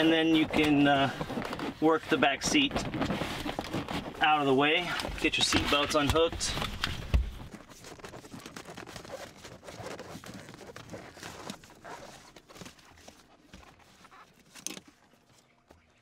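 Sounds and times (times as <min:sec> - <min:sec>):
soft rustling: 0:00.0 - 0:15.5.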